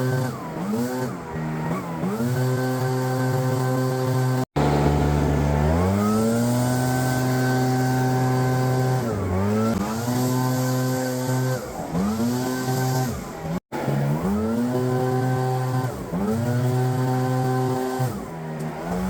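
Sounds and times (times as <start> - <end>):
leaf blower engine running: 0.0 - 19.0.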